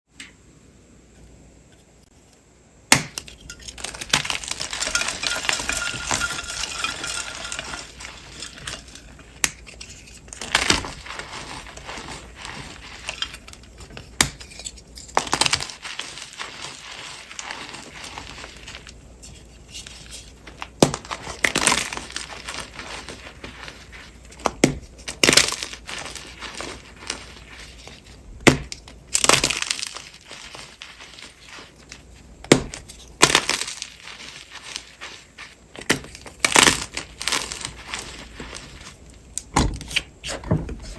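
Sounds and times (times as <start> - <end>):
chalk crunching and crumbling: 3.2 - 40.9.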